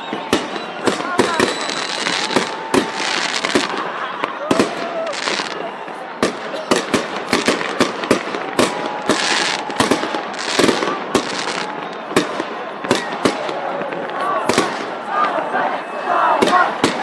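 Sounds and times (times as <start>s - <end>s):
hissing crackle of fireworks: 0.0s - 15.0s, 16.4s - 17.0s
fireworks bangs: 0.0s - 15.4s, 16.3s - 17.0s.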